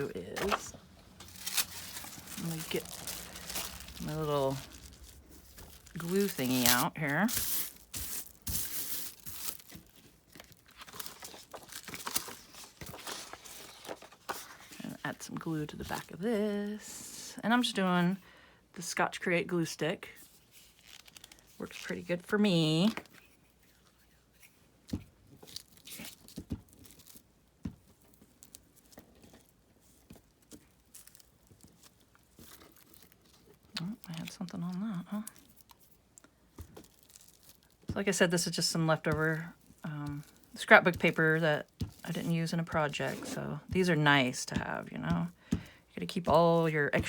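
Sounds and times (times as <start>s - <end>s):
paper rustling and crinkling: 0.0s - 15.1s, 20.3s - 22.1s, 25.2s - 47.0s.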